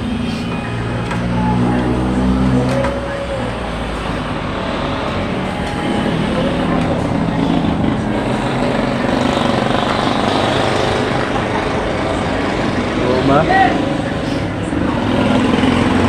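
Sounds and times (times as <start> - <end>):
loud engine drone: 0.0 - 16.0.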